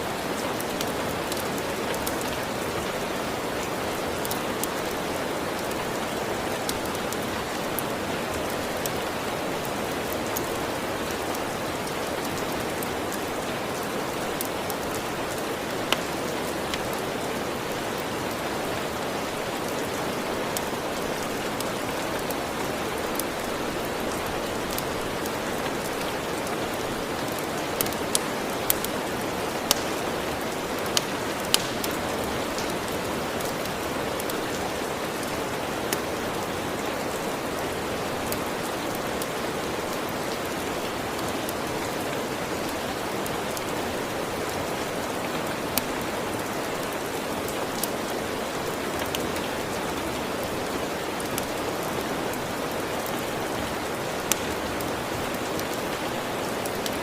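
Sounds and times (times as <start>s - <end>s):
steady rain: 0.0s - 57.0s
wood fire crackling: 0.1s - 55.8s.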